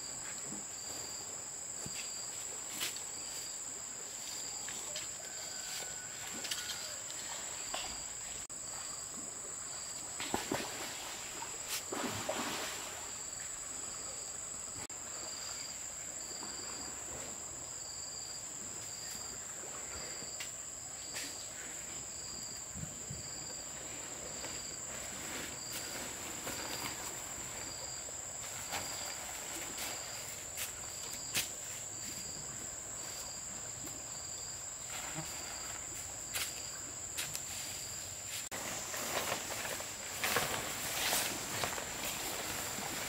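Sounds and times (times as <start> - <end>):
insect pulsing call: 4.1 - 17.0, 17.8 - 43.0.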